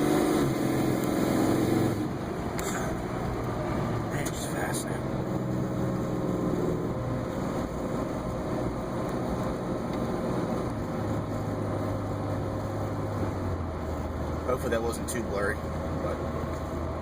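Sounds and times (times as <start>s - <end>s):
engine accelerating at full throttle: 0.0s - 17.0s
road noise: 0.0s - 17.0s.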